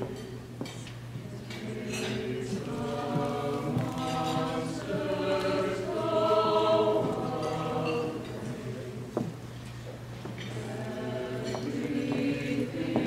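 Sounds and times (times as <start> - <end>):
mixed choir singing held chords: 1.2 - 9.4, 10.4 - 13.0.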